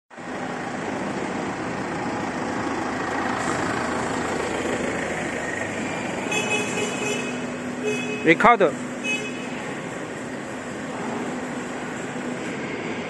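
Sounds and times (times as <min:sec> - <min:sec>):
diesel engine drone: 0:00.1 - 0:13.0.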